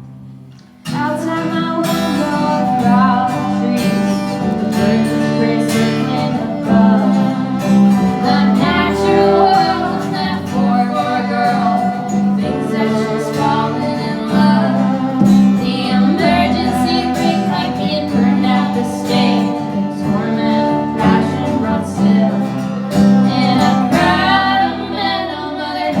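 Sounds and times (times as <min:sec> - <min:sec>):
acoustic guitar strumming: 0:00.0 - 0:26.0
woman singing: 0:00.9 - 0:26.0.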